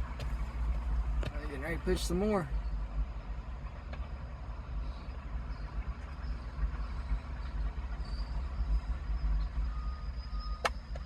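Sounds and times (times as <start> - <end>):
bulldozer diesel engine rumbling: 0.0 - 11.0.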